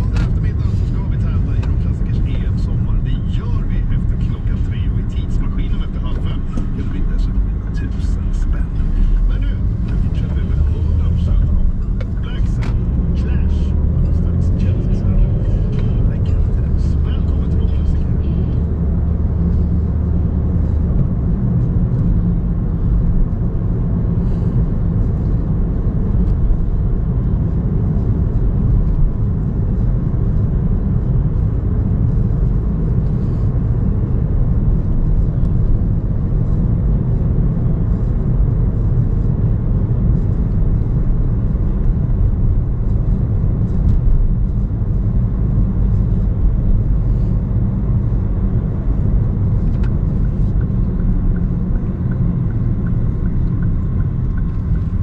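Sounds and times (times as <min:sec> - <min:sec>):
low rumble of moving vehicle: 0:00.0 - 0:55.0.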